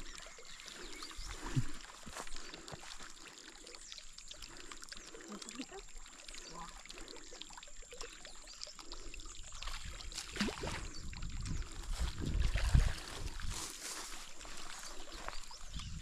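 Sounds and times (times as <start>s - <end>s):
fish splashing in water: 0.0s - 15.3s.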